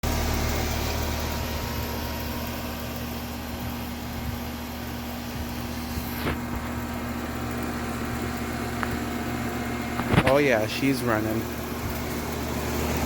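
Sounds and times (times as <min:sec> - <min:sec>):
compressor electrical hum: 0:00.0 - 0:13.0
fan rushing: 0:00.0 - 0:13.0.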